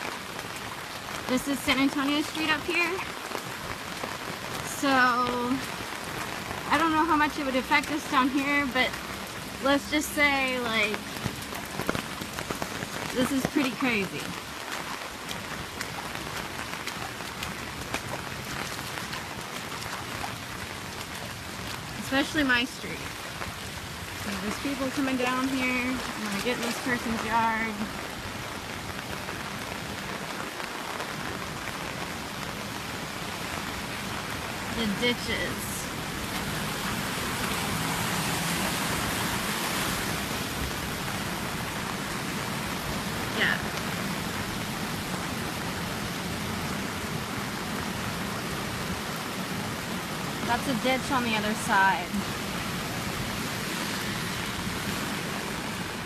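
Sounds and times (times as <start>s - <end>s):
floodwater rushing: 0.0s - 56.0s
rain on pavement: 0.0s - 56.0s.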